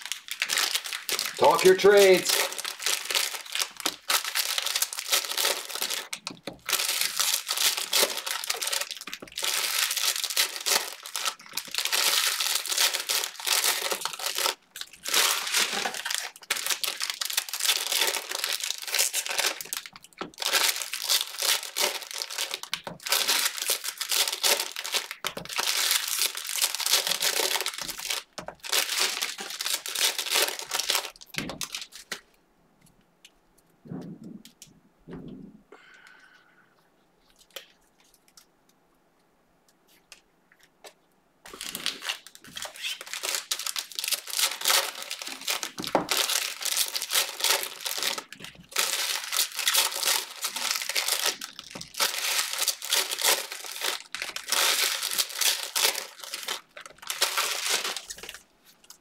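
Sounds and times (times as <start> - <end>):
card pack wrappers crinkling and tearing: 0.0 - 32.3, 41.5 - 59.0.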